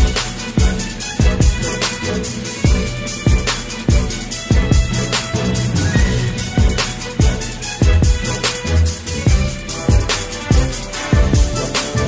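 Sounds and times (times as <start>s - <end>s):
hip hop drum-machine beat: 0.0s - 12.0s.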